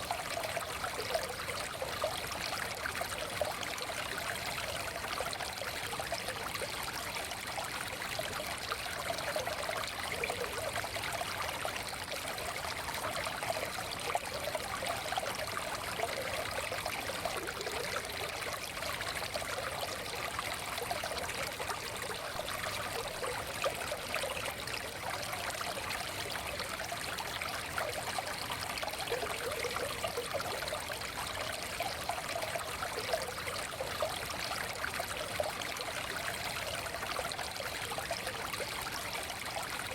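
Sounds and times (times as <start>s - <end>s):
forest stream trickling over stones: 0.0s - 39.9s.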